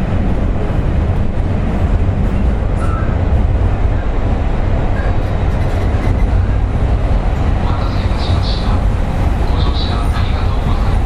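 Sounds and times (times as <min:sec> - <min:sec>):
train motors and wheels rumbling: 0:00.0 - 0:11.0.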